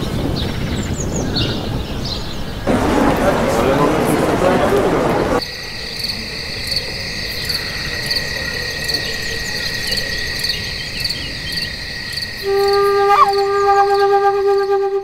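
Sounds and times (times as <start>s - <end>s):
crickets chirping: 2.5s - 15.0s.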